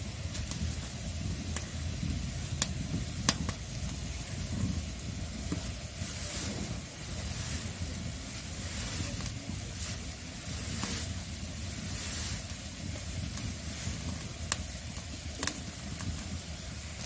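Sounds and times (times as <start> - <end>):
fritters sizzling in oil: 0.0 - 17.0
low rumble: 0.0 - 17.0.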